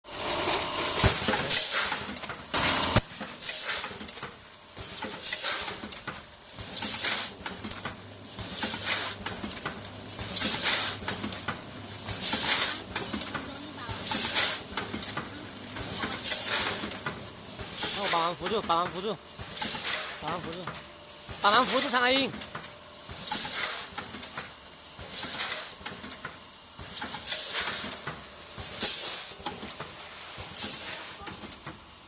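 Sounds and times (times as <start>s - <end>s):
packaging machine hissing bursts: 0.1s - 31.9s.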